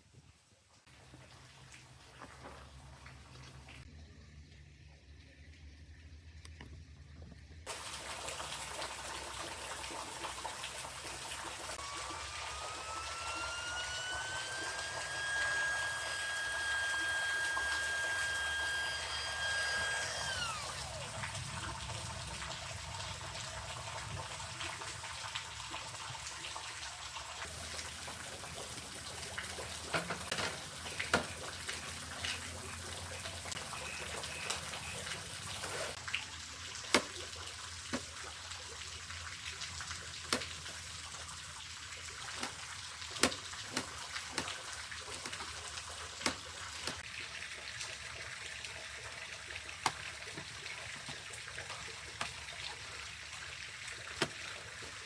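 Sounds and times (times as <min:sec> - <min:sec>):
water trickling: 0:00.8 - 0:55.0.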